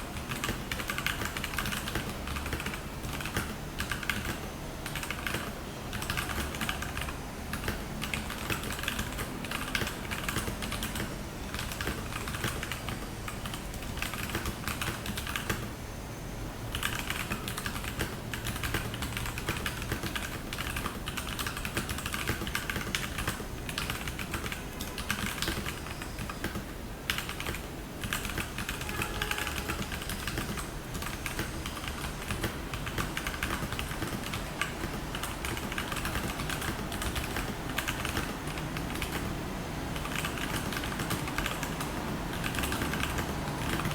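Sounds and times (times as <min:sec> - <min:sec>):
mechanical keyboard typing: 0:00.1 - 0:15.7, 0:16.7 - 0:39.4, 0:40.0 - 0:43.9.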